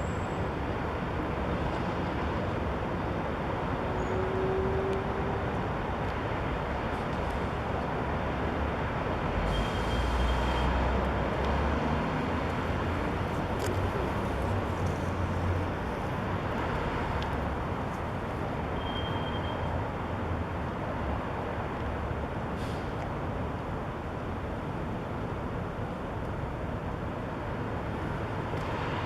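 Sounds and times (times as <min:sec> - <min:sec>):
city traffic: 0:00.0 - 0:29.0.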